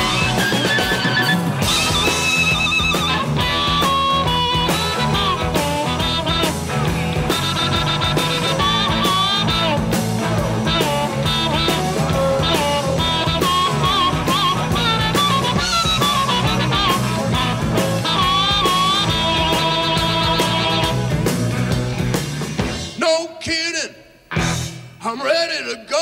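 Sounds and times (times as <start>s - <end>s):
amplified harmonica solo: 0.0s - 21.3s
blues band playing live: 0.0s - 23.0s, 24.3s - 25.2s.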